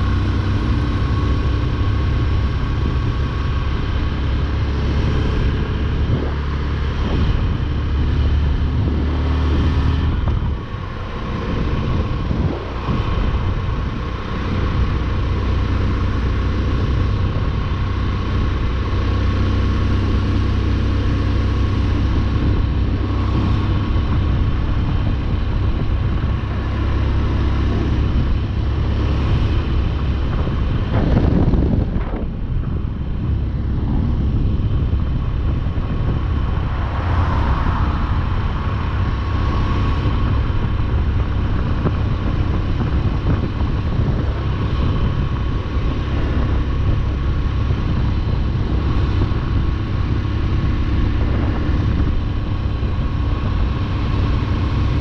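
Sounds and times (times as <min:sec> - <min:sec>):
motorcycle engine cruising: 0:00.0 - 0:55.0
road noise: 0:00.0 - 0:55.0
wind noise: 0:00.0 - 0:55.0.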